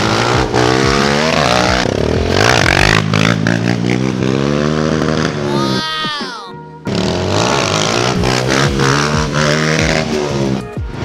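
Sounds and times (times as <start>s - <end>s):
motorcycle engine revving: 0.0s - 5.6s, 6.5s - 11.0s.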